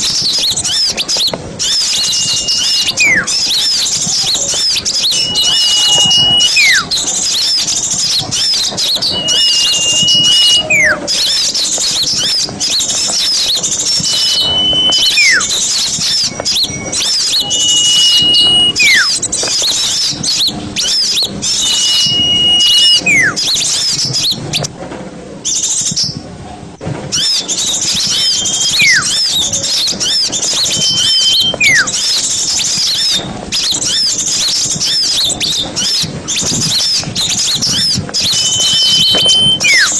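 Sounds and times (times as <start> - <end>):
high whistled bird call: 0.0 - 24.7, 27.1 - 39.9
small birds chirping and trilling: 0.0 - 24.7, 25.5 - 26.2, 27.1 - 39.9.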